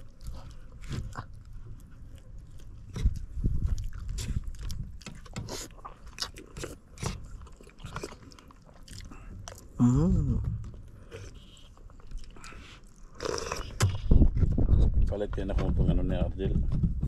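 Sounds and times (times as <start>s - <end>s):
chewing: 0.0s - 14.6s.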